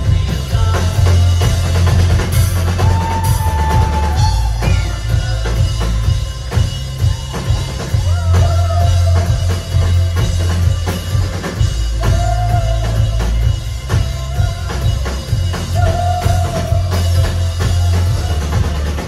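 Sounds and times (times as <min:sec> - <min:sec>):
drum kit beating: 0:00.0 - 0:19.0
heavy bass: 0:00.0 - 0:19.0
synth-pop band playing: 0:00.0 - 0:19.0.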